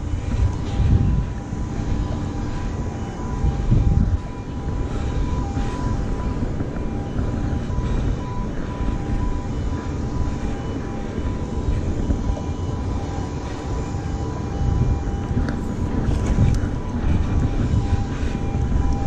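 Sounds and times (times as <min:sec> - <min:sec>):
faint high whine: 0:00.0 - 0:19.0
wind buffeting microphone: 0:00.0 - 0:19.0.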